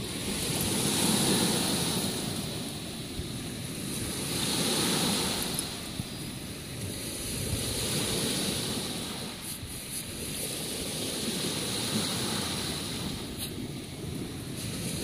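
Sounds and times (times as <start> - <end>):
waves breaking on pebble shore: 0.0 - 15.0
wind buffeting microphone: 0.0 - 15.0.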